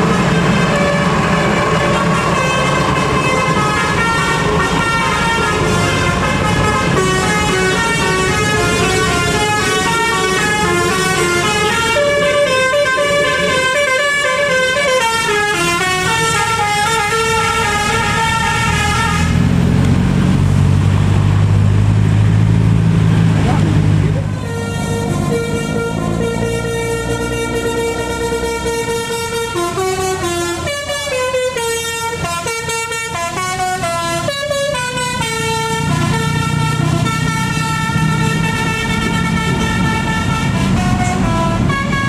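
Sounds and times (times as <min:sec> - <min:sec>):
multi-tone bus horn tune: 0:00.0 - 0:19.7, 0:23.7 - 0:42.0.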